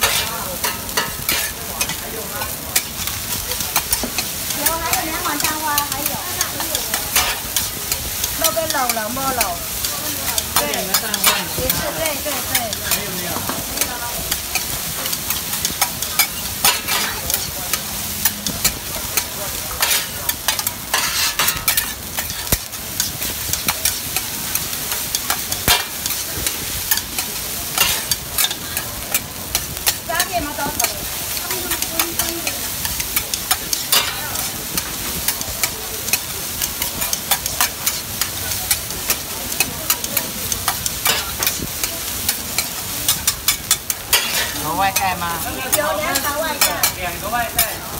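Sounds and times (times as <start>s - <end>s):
metal spatula scraping griddle: 0.0s - 2.1s, 3.7s - 47.8s
rice sizzling on griddle: 0.0s - 47.9s.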